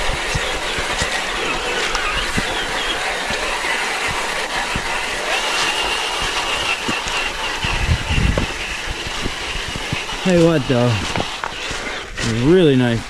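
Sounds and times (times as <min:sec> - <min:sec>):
rc car motor whine: 0:00.0 - 0:13.0.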